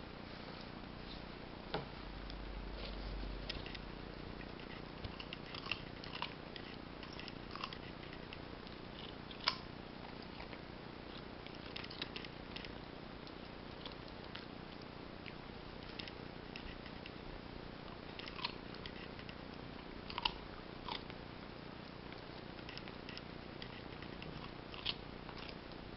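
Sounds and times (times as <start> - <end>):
puppy crunching a carrot: 2.8 - 17.2, 17.8 - 25.9.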